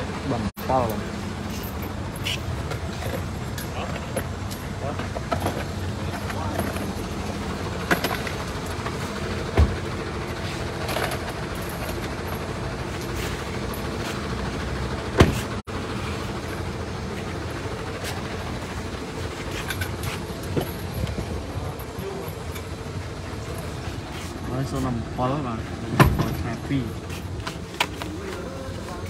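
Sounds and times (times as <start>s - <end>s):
low hum of engines and machinery: 0.0s - 29.0s.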